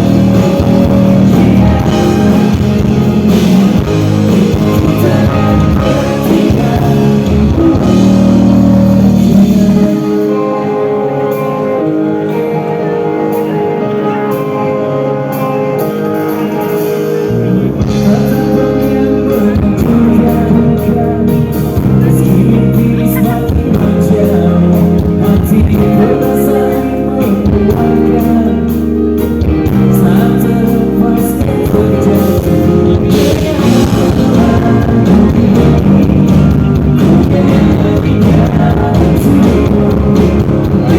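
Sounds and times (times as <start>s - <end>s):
drum kit: 0.0s - 11.8s, 13.2s - 40.9s
electric guitar: 0.0s - 40.9s
live rock band playing: 0.0s - 40.9s
person singing: 0.0s - 40.9s.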